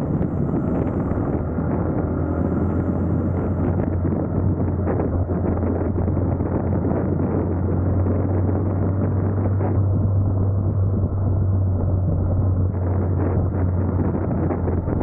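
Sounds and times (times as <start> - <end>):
motorcycle engine humming: 0.0 - 15.0
wind rushing over microphone: 0.0 - 15.0.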